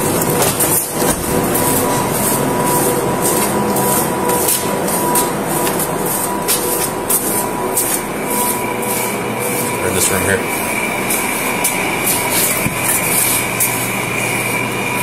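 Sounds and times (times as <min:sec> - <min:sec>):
footsteps and clothing rustling: 0:00.0 - 0:14.9
mechanical hum with whine: 0:00.0 - 0:15.0.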